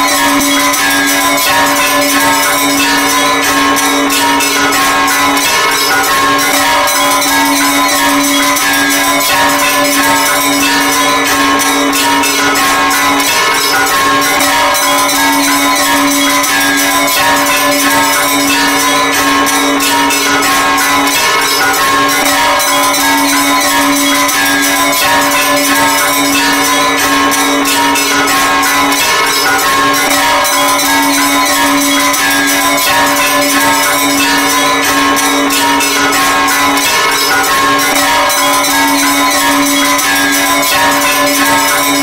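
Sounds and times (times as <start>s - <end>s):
temple bells ringing: 0.0s - 42.0s.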